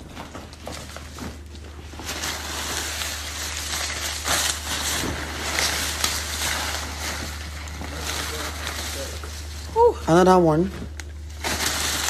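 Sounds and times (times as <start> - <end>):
banknotes rustling and crinkling: 0.0 - 12.0
steady low hum: 0.0 - 12.0.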